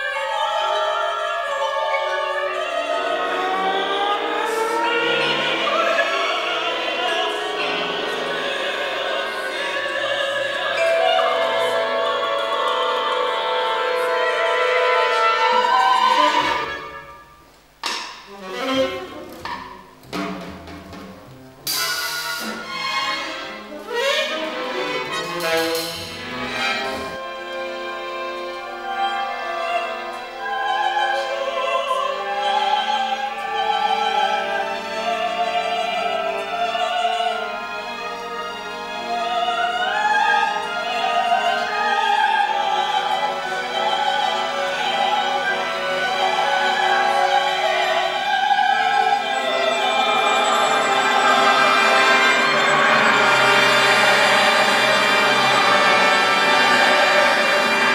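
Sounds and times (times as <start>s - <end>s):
orchestral notes: 0.0s - 57.9s.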